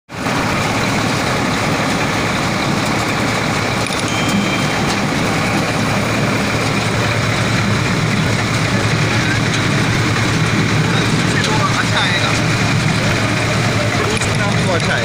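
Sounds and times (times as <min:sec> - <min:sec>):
thresher machine running: 0:00.1 - 0:15.0.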